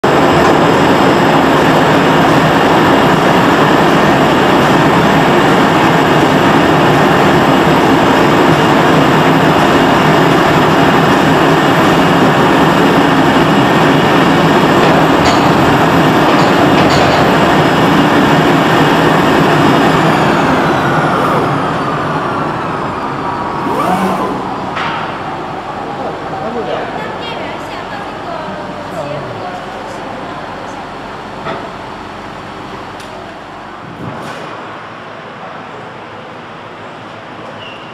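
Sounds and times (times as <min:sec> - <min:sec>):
cutting machine whirring and whining: 0:00.1 - 0:33.6.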